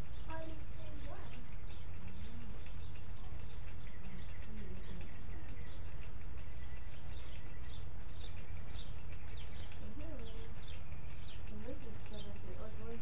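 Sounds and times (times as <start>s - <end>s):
small birds chirping: 0.0s - 13.0s
sprinkler spray hissing on grass: 0.0s - 13.0s.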